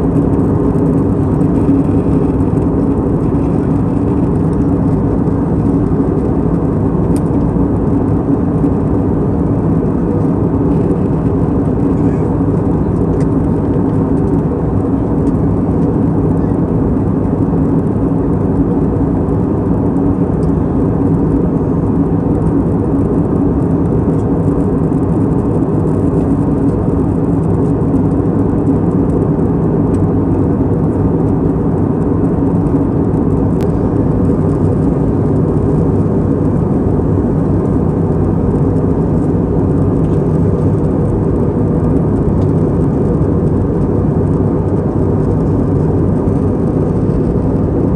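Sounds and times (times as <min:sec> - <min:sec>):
airliner engines roaring: 0:00.0 - 0:47.9
low hum: 0:00.0 - 0:47.9.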